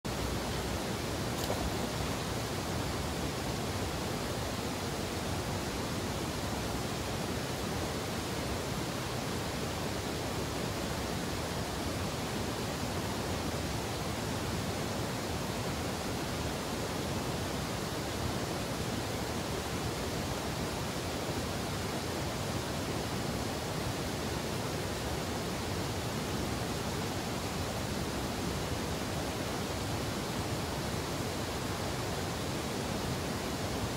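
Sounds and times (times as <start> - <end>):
fast-flowing river water: 0.1 - 33.9.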